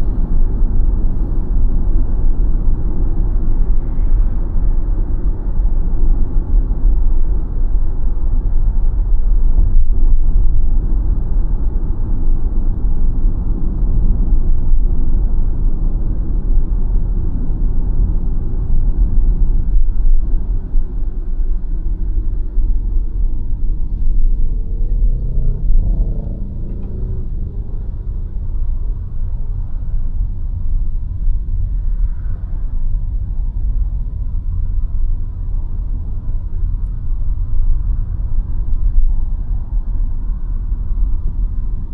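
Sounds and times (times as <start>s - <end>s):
road and tyre rumble: 0.0s - 41.9s.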